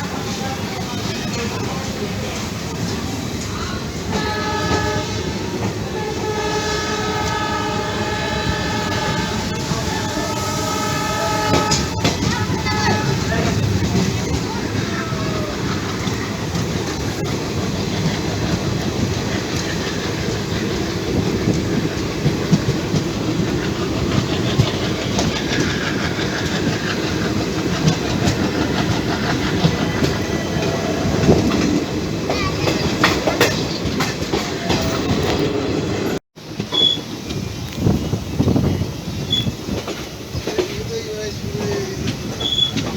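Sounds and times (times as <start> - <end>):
train rumble: 0.0 - 42.9
wheels clattering over rail joints: 8.2 - 42.9.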